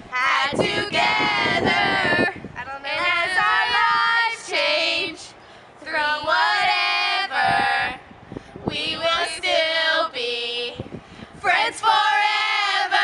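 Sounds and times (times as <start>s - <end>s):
young women singing together: 0.0s - 13.0s.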